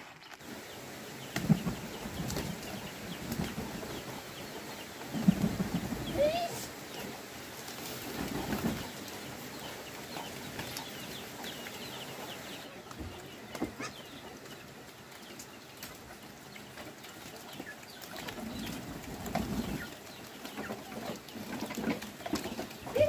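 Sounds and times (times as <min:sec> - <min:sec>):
small birds chirping: 0:00.0 - 0:23.0
poultry clucking: 0:01.2 - 0:23.0.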